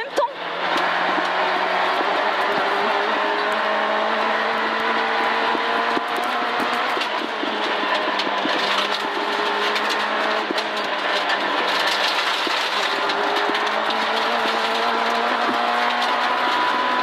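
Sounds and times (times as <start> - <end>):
car engine from inside cockpit: 0.0 - 17.0
car rattles and clicks: 0.0 - 17.0
road noise: 0.0 - 17.0.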